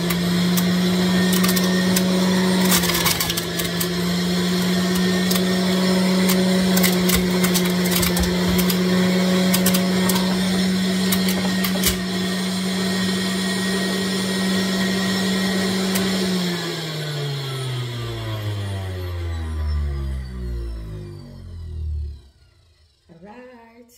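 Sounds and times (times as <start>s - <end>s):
fruit crunching in juicer: 0.0s - 19.2s
juicer motor hum: 0.0s - 23.1s
motor winding down: 0.0s - 23.2s.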